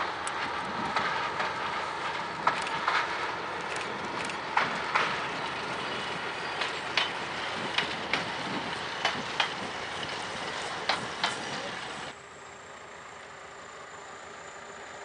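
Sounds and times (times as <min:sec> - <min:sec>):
wheels clicking over rail joints: 0:00.0 - 0:12.2
railcar rumbling: 0:00.0 - 0:15.0.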